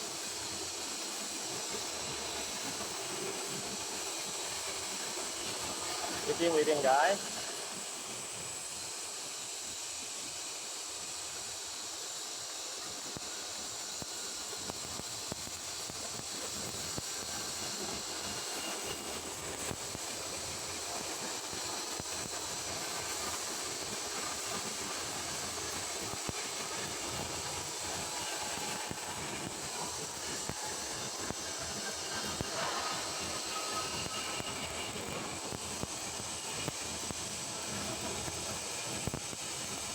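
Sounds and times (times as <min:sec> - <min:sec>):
arc welding crackling hiss: 0:00.0 - 0:39.9.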